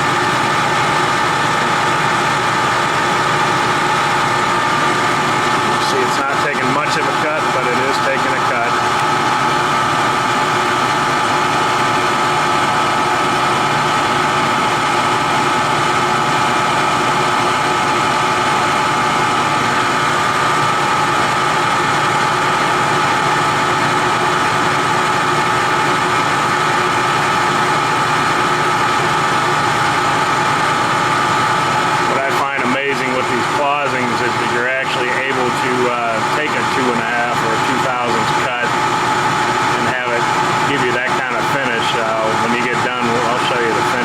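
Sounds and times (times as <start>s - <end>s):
gear whine: 0.0s - 44.0s
metal lathe running: 0.0s - 44.0s.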